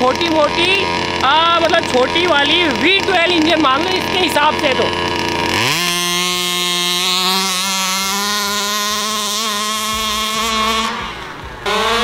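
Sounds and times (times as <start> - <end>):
two-stroke engine at high revs: 0.0 - 12.0.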